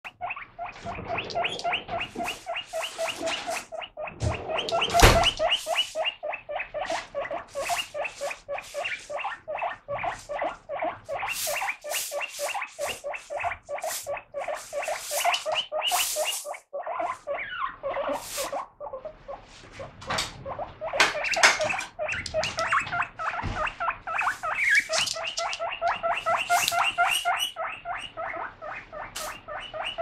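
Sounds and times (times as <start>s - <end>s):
guinea pig squealing: 0.0s - 30.0s.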